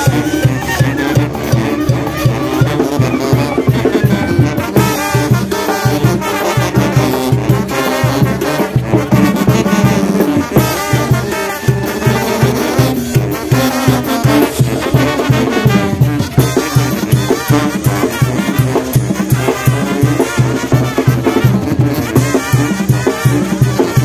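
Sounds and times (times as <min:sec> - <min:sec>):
brass band playing dance music: 0:00.0 - 0:24.0.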